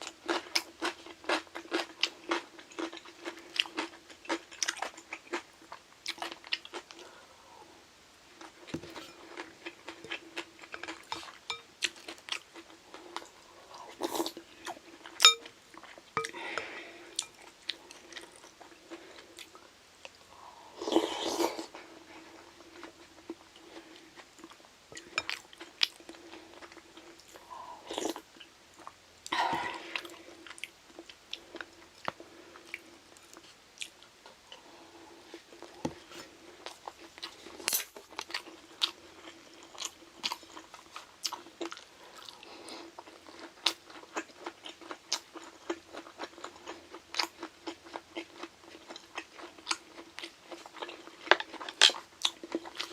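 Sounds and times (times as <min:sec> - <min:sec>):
chewing and crunching food: 0:00.0 - 0:07.3, 0:08.3 - 0:52.9
faint steady hum: 0:00.0 - 0:52.9.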